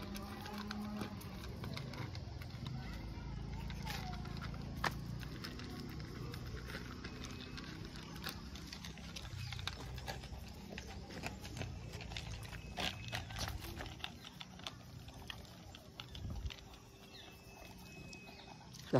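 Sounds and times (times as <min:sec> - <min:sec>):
dogs crunching kibble: 0:00.0 - 0:18.9.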